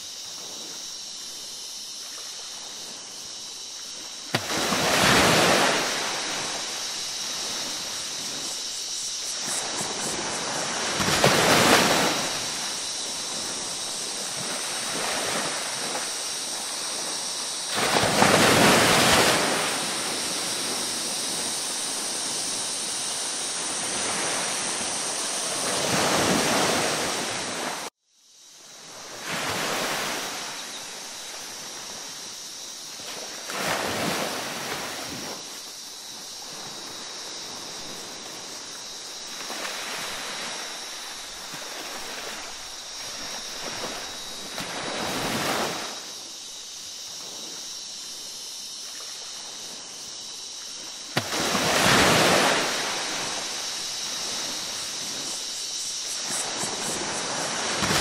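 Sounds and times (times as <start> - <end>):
ocean waves surging and washing: 0.0 - 27.9, 28.8 - 32.2, 32.9 - 46.4, 48.9 - 58.0
steady hiss: 0.0 - 58.0.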